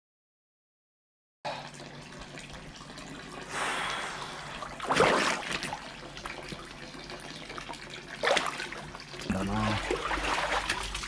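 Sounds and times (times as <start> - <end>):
stream water trickling: 1.5 - 11.0.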